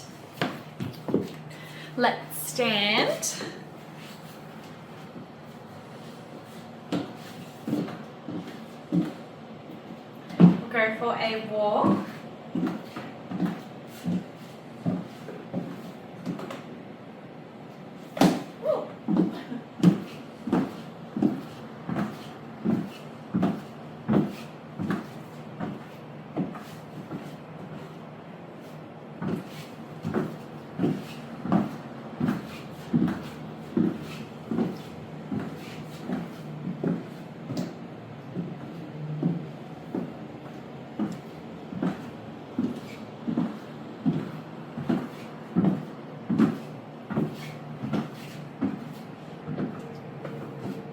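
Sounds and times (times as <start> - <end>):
high heel footsteps: 0.0 - 1.7, 6.3 - 16.7, 18.2 - 27.9, 29.2 - 50.9.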